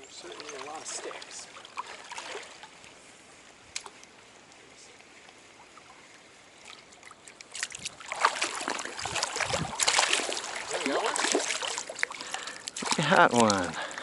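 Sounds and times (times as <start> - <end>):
stream water trickling: 0.0 - 14.0
water splashing and sloshing: 0.0 - 14.0.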